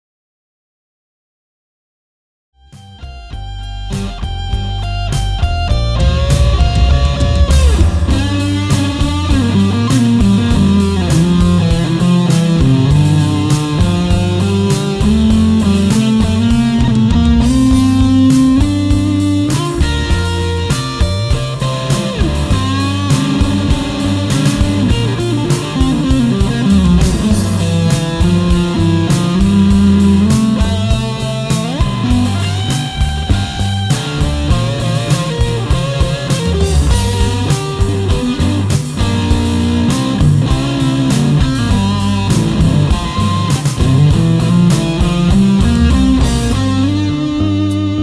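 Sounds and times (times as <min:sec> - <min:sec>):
electric guitar bending notes: 0:02.6 - 0:48.0
rock backing track: 0:02.6 - 0:48.0.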